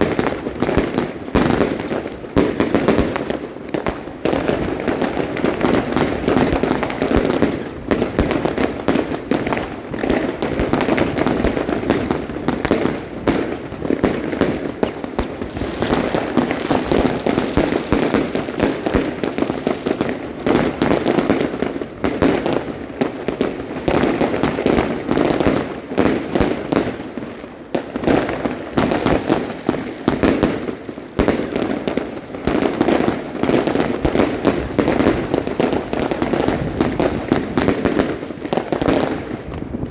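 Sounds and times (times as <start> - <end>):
firework rapid bangs and crackles: 0.0 - 39.9.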